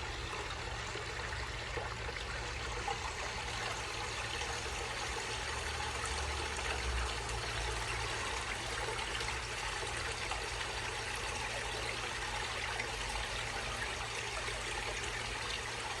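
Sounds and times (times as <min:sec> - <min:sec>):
water running down a stream: 0:00.0 - 0:16.0
water splashing into a pond: 0:00.0 - 0:16.0.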